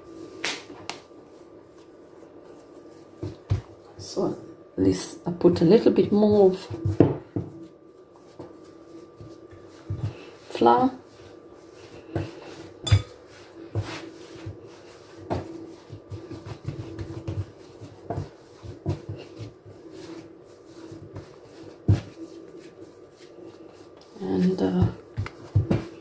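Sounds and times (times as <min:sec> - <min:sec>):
dough kneaded by hand: 0:00.0 - 0:26.0.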